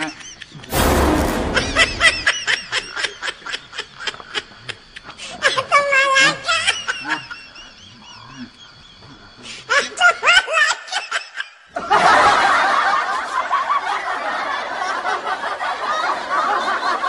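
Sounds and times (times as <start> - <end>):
people laughing: 0.0 - 0.7, 2.2 - 8.8, 9.6 - 17.0.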